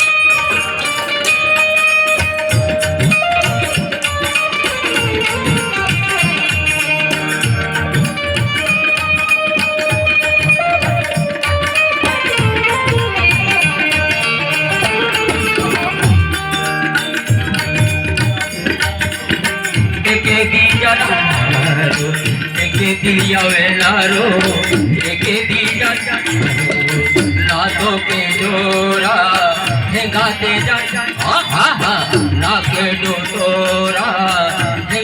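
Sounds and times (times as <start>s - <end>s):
fast hand drum rhythm: 0.0s - 35.0s.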